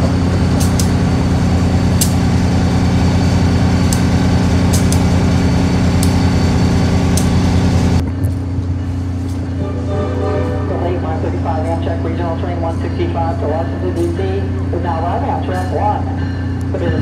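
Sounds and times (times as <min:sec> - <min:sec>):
idling railway equipment hum: 0:00.0 - 0:17.0.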